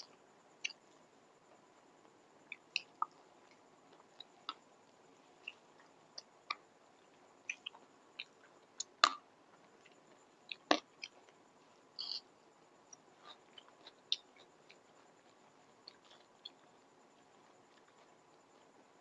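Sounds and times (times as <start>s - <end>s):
chewing: 0.0s - 11.4s, 12.0s - 19.0s.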